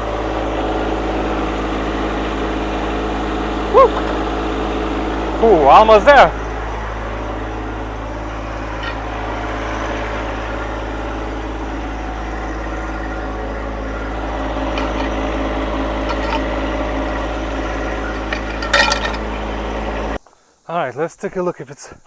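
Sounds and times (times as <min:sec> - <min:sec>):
engine running steadily: 0:00.0 - 0:20.2.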